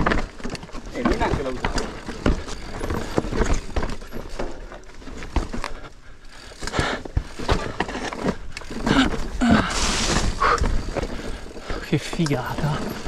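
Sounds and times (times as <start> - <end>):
bike knocking and rattling on stones: 0.0 - 13.0.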